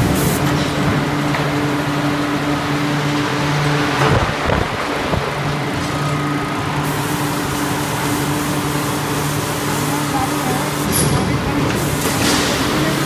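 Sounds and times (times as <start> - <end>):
forging press humming: 0.0 - 13.0.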